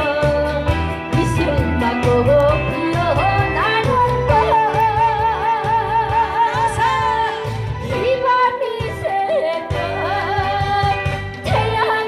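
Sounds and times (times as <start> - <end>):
band backing: 0.0 - 12.0
keyboard: 0.0 - 12.0
woman singing through microphone: 0.0 - 12.0.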